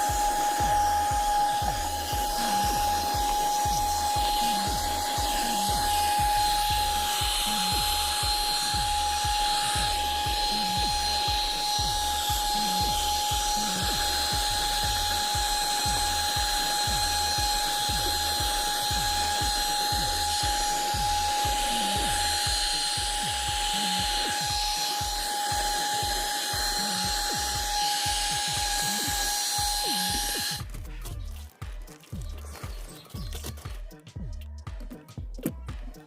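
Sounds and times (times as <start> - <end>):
handheld vacuum cleaner whine: 0.0 - 30.8.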